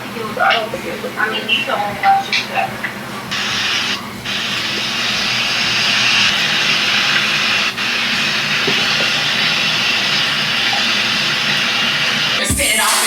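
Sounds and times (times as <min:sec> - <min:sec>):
steady loud hiss: 0:00.0 - 0:13.0.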